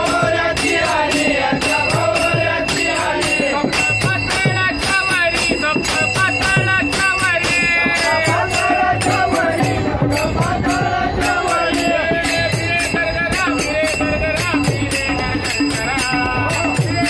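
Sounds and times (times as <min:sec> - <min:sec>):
brass hand cymbals struck: 0:00.0 - 0:17.0
men singing in unison: 0:00.0 - 0:17.0.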